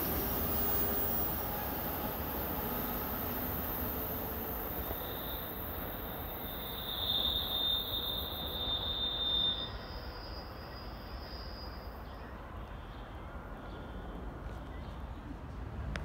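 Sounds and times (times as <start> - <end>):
train wheels squealing: 0.0 - 14.6
train low rumble: 0.0 - 16.0.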